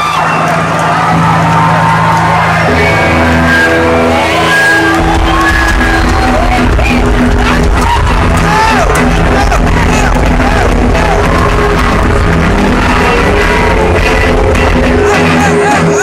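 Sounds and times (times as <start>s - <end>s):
crowd shouting and whooping: 0.0s - 16.0s
rock band playing live: 0.0s - 16.0s.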